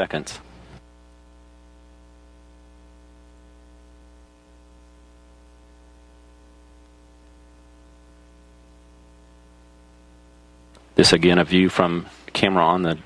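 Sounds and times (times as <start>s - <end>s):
electrical mains hum: 0.0s - 13.0s
faint static hiss: 0.0s - 13.0s.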